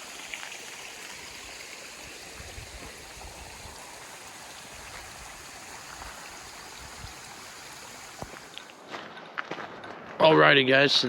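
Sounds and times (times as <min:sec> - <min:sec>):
creek water flowing over rocks: 0:00.0 - 0:08.9.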